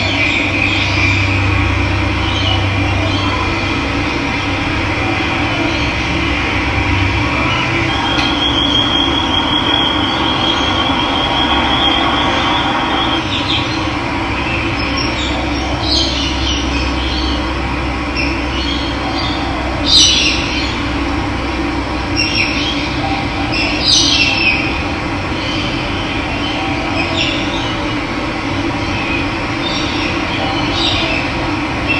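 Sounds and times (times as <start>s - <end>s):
birds calling: 0.0s - 21.4s, 22.0s - 31.9s.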